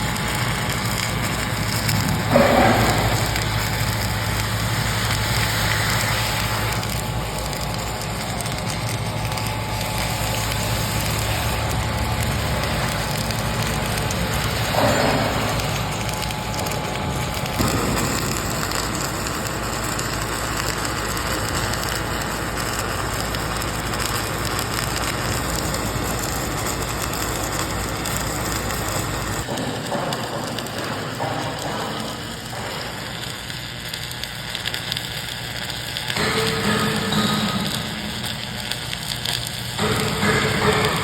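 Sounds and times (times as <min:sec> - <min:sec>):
arc welding crackling: 0:00.0 - 0:41.0
low machine rumble: 0:00.0 - 0:41.0.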